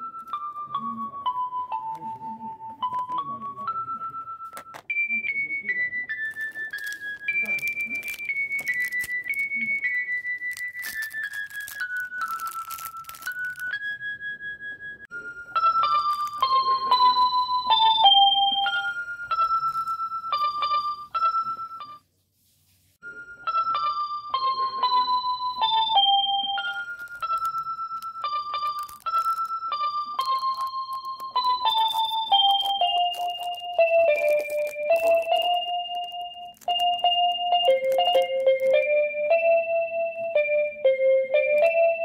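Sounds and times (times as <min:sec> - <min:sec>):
keyboard melody: 0:00.0 - 0:22.0, 0:23.0 - 0:42.0.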